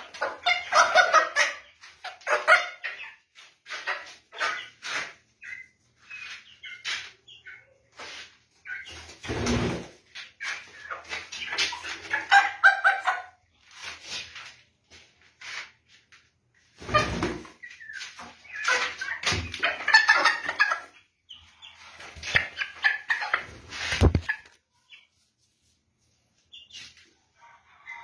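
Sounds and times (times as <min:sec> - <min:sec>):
chickens clucking and calling: 0:00.0 - 0:14.5, 0:16.6 - 0:25.4, 0:26.1 - 0:28.0.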